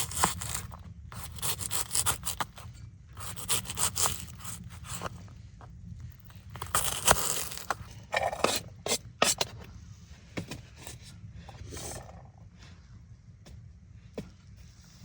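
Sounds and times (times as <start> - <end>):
objects scraping and rustling: 0.0 - 12.4.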